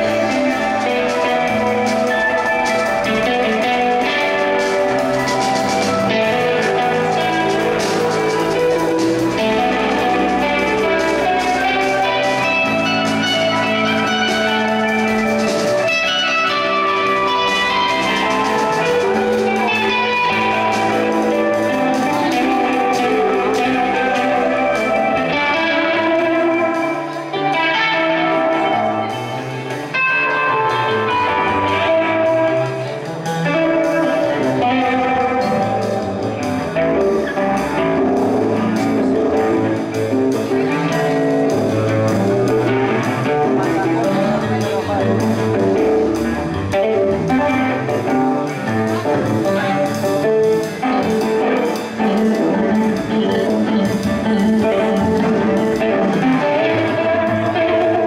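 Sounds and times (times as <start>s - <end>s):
electric guitars: 0.0s - 58.0s
rock band playing live: 0.0s - 58.0s.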